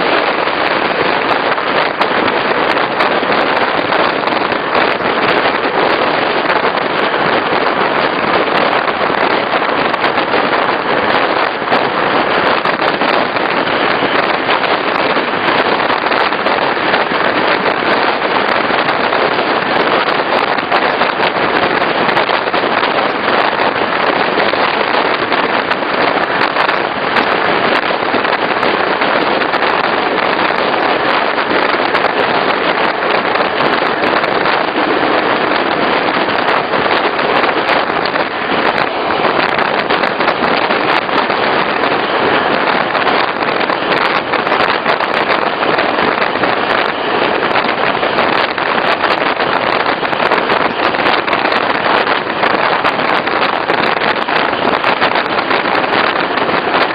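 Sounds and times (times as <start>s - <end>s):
dense constant crackling: 0.0s - 56.9s.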